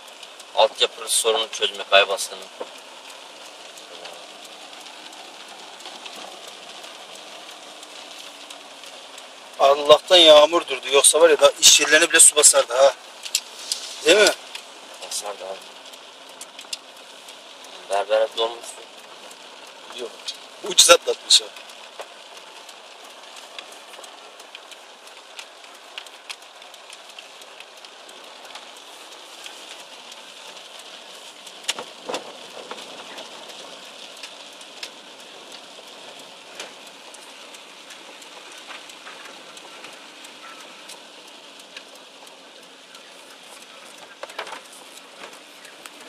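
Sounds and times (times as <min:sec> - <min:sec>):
rain hissing on car: 0:00.0 - 0:46.0
raindrops ticking on glass: 0:00.0 - 0:46.0.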